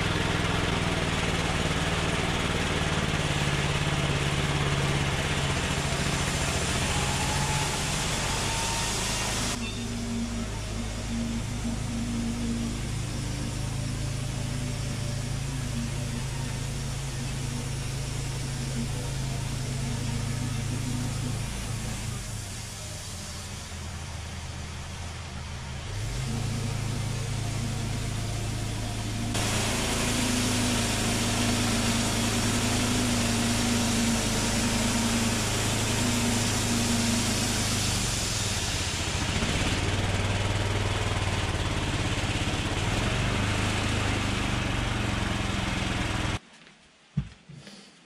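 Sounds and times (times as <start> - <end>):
sawmill engine running: 0.0 - 46.4.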